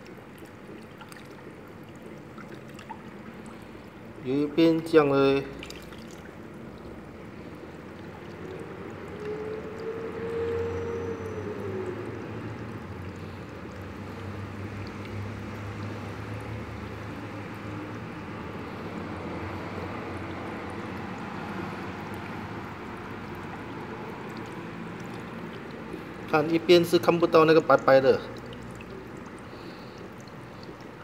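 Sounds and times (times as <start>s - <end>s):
low steady hum: 0.0s - 31.0s
water pouring into a tub: 0.0s - 31.0s.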